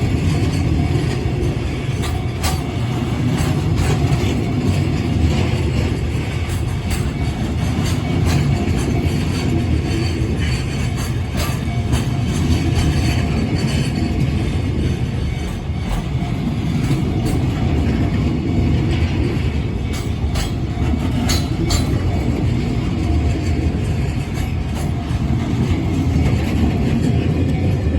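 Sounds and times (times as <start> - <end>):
freight train wagons rumbling: 0.0 - 27.9
wheels clacking on rail joints: 0.0 - 27.9.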